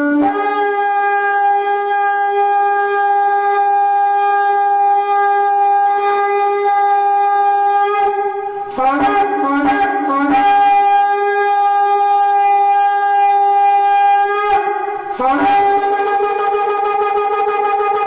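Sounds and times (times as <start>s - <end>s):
shofar blast: 0.0s - 18.0s.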